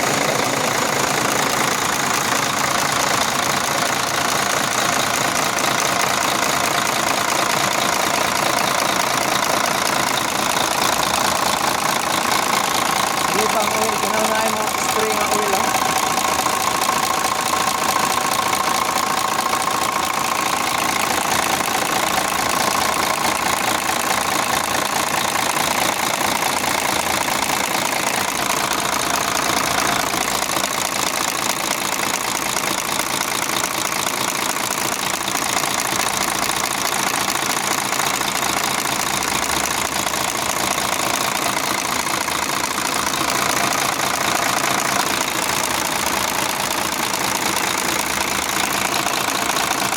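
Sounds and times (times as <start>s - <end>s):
truck diesel engine idling: 0.0s - 49.9s.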